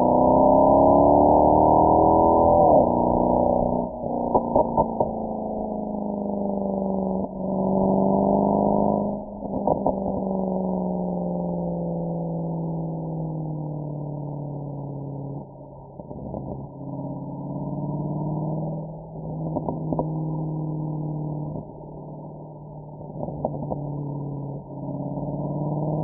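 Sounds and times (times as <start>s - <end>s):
car exhaust while driving: 0.0s - 26.0s.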